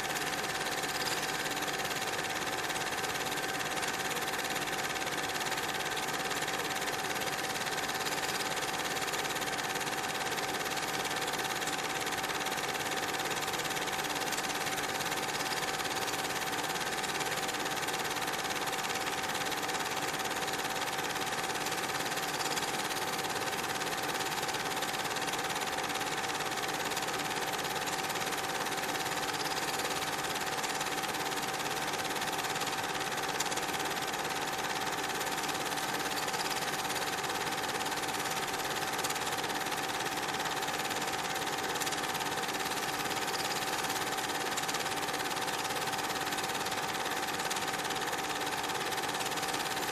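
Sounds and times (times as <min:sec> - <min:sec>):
small machine whirring: 0:00.0 - 0:49.9.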